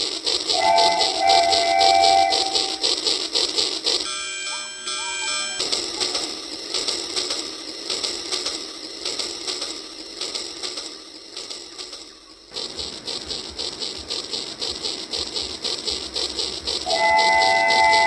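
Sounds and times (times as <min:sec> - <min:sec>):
toy train motor clicking: 0:00.0 - 0:18.0.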